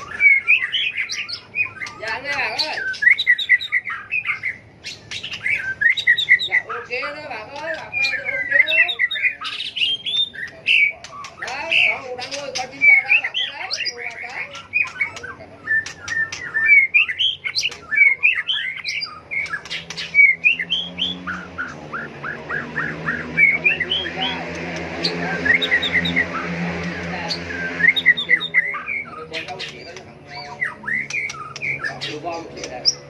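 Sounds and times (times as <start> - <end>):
bird singing: 0.0 - 33.0.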